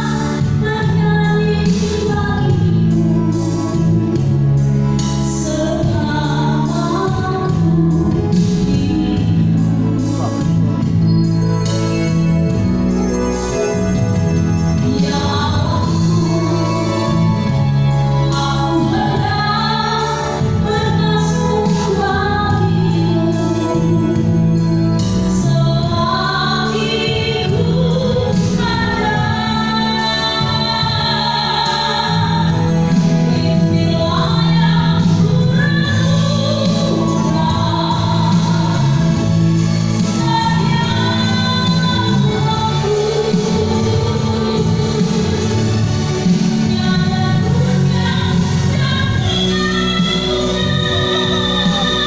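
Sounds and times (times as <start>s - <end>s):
keyboard music: 0.0s - 52.0s
woman singing: 0.0s - 52.0s.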